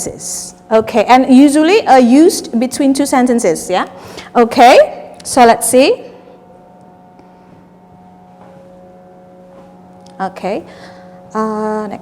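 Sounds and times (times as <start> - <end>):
faint low electrical hum: 0.0 - 12.0.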